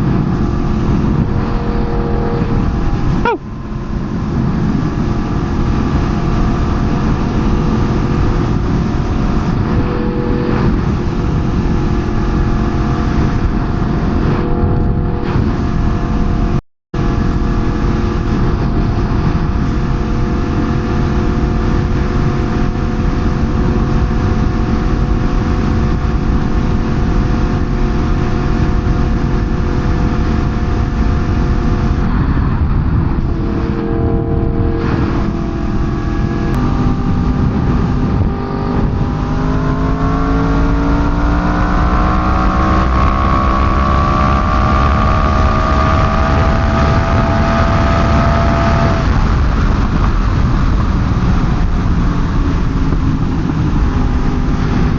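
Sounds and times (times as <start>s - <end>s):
motorcycle engine running: 0.0s - 54.9s
wind rumble on microphone: 0.0s - 54.9s.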